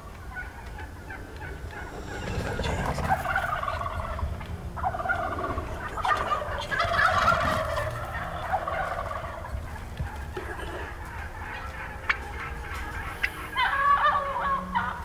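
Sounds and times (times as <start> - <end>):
wild turkeys gobbling: 0.0 - 15.0.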